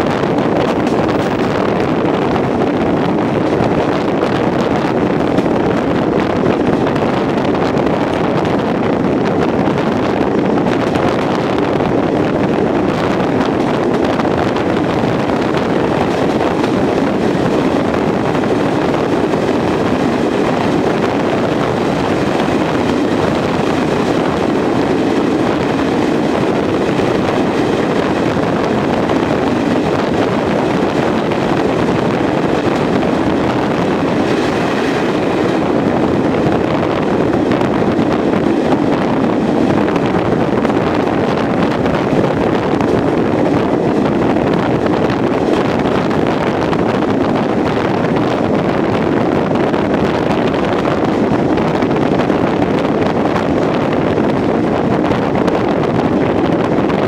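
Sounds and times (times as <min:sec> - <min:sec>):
train running at speed: 0:00.0 - 0:57.0
wind buffeting microphone: 0:00.0 - 0:57.0.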